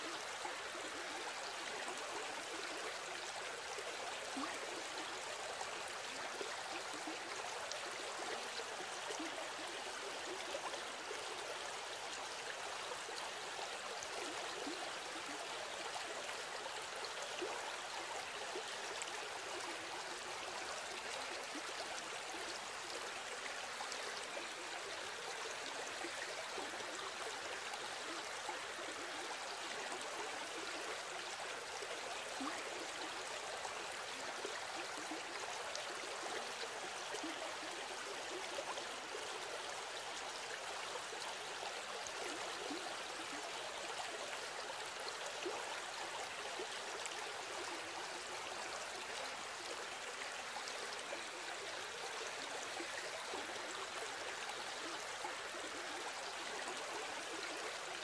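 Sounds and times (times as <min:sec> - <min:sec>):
stream of water flowing: 0:00.0 - 0:58.0.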